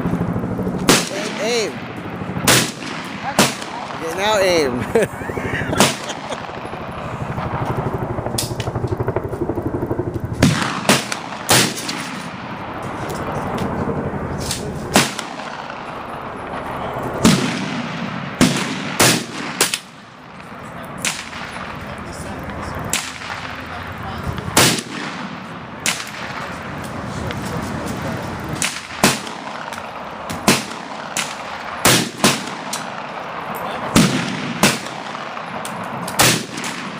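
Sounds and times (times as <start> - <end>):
steady rushing background noise: 0.0 - 36.9
rifle shots: 0.8 - 4.7, 5.7 - 6.9, 10.4 - 13.4, 14.4 - 36.9.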